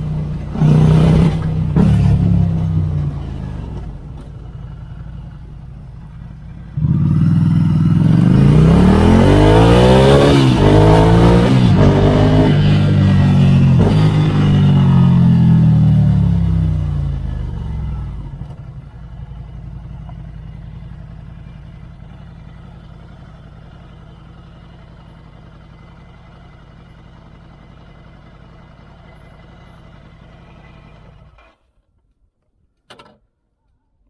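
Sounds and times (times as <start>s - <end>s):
motorcycle engine running: 0.0s - 31.4s.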